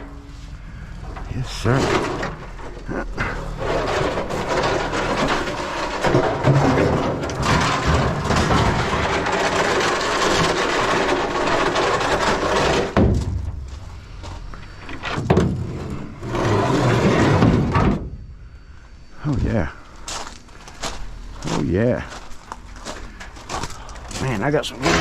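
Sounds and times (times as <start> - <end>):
scrap metal clattering: 0.0 - 18.0, 20.7 - 25.0.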